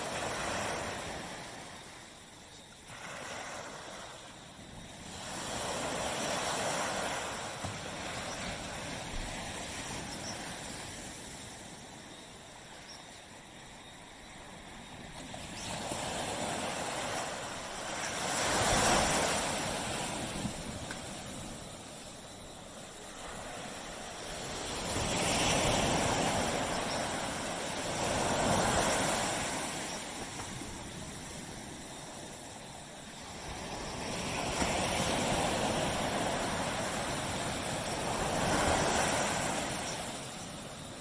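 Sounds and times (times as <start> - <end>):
sea waves breaking on beach: 0.0 - 12.6, 14.2 - 41.0.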